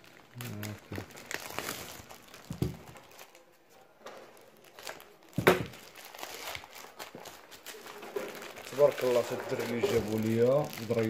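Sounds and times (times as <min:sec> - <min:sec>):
plastic bag crinkling: 0:00.0 - 0:03.5, 0:04.1 - 0:11.0.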